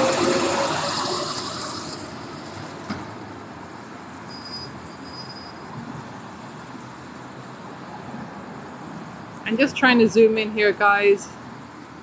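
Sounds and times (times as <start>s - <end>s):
steady traffic hum: 0.0s - 12.0s.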